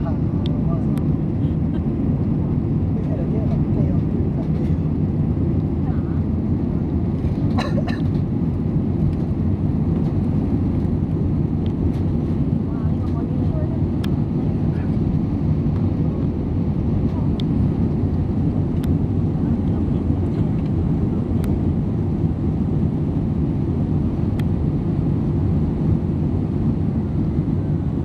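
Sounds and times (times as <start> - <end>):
airliner engines rumbling in cabin: 0.0 - 28.0.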